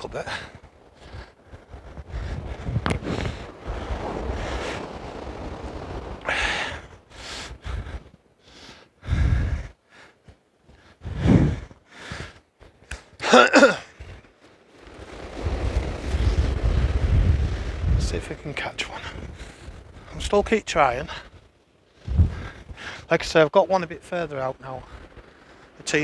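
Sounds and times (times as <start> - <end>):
wind buffeting microphone: 0.0 - 9.8, 10.6 - 13.2, 13.9 - 26.0.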